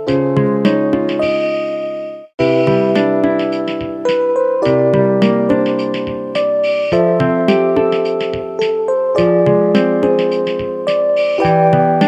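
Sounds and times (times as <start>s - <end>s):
piano music with steady beat: 0.0s - 12.0s.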